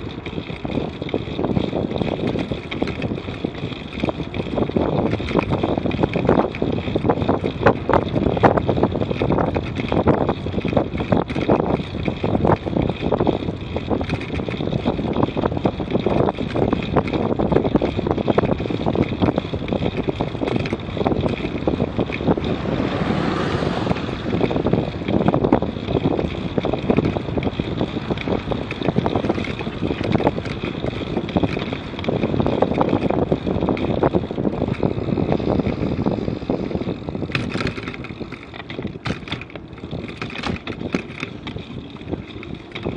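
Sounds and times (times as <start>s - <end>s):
bike knocks and rattles: 0.0s - 42.9s
wind buffeting microphone: 0.0s - 42.9s.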